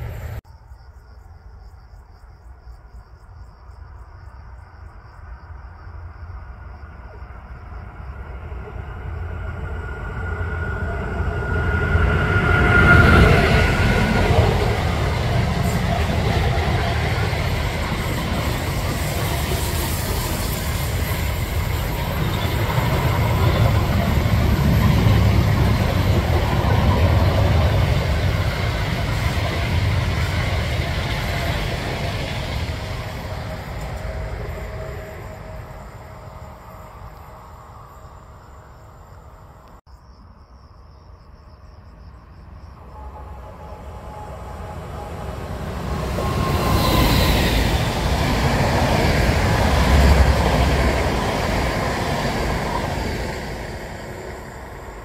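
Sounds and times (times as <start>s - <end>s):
electric train passing: 0.0s - 0.4s, 6.3s - 39.8s, 42.3s - 55.0s
wheels rushing on rails: 7.8s - 39.8s, 42.8s - 55.0s.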